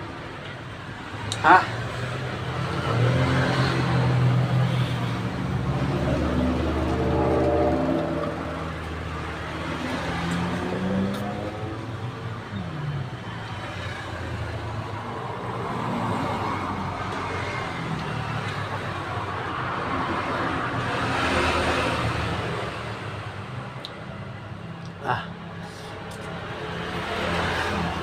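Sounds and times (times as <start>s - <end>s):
passing vehicle engines: 0.0s - 28.0s.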